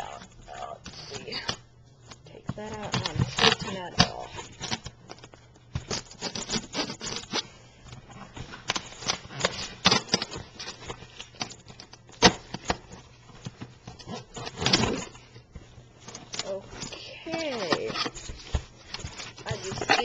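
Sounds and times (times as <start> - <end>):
packing material rustling: 0.0 - 20.0.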